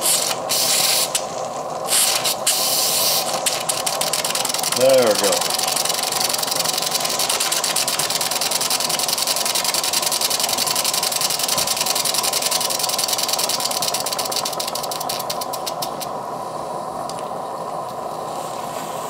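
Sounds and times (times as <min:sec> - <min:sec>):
gas burner hissing: 0:00.0 - 0:19.0
steam engine exhaust beats: 0:00.0 - 0:19.0.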